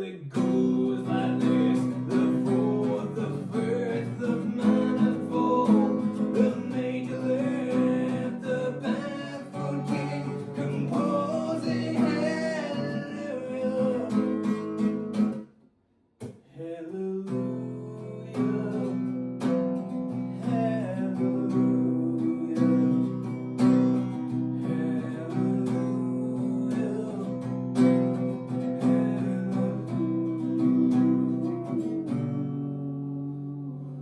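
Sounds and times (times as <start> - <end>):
acoustic guitar strumming: 0.0 - 15.5, 17.3 - 34.0.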